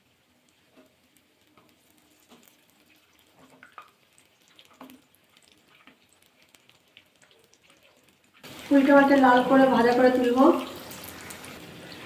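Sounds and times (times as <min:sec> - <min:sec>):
deep-frying sizzle in hot oil: 0:00.0 - 0:12.0
oil popping: 0:00.4 - 0:08.7, 0:10.5 - 0:12.0.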